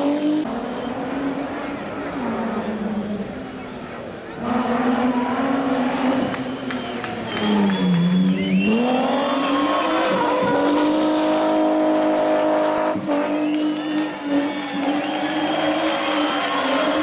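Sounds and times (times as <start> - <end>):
race car engine at high revs: 0.0 - 3.4, 4.3 - 17.0.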